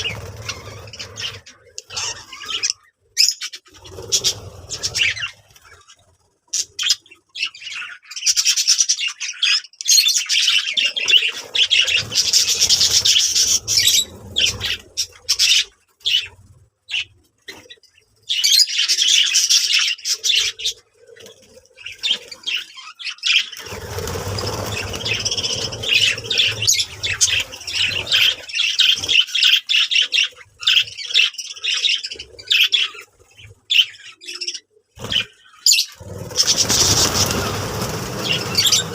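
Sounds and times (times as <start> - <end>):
budgerigars chattering: 0.0 - 5.9, 6.6 - 20.8, 21.8 - 38.9.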